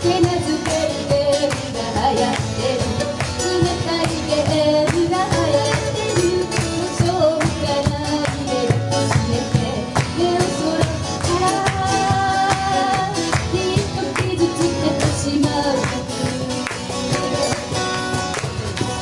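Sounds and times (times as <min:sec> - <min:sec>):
woman singing: 0:00.0 - 0:17.2
cajon beats: 0:00.0 - 0:19.0
strummed acoustic guitars: 0:00.0 - 0:19.0.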